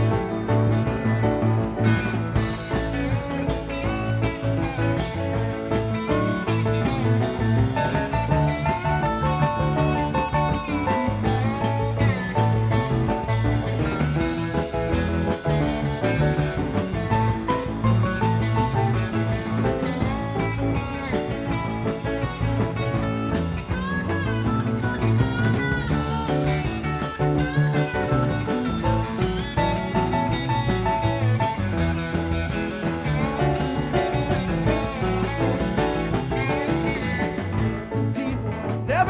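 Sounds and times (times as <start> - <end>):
blues-rock band playing: 0.0 - 39.0
electric lead guitar bending notes: 0.0 - 39.0.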